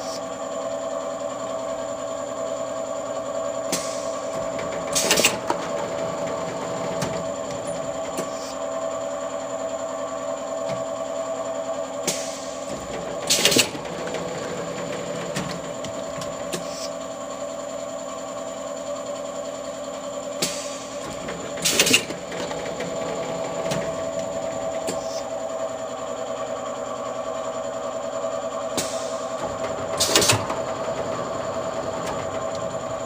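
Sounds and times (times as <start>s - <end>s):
machine mechanical hum: 0.0s - 33.0s.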